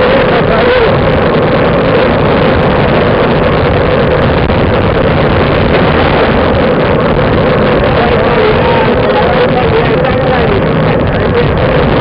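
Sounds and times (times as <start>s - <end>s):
wind rush over microphone: 0.0s - 12.0s.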